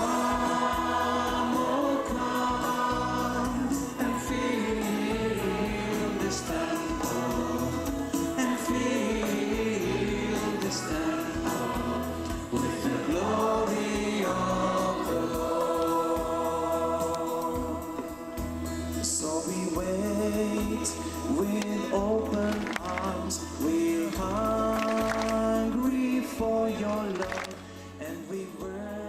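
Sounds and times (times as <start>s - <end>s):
choir singing: 0.0s - 27.6s
steady bass: 0.0s - 27.7s.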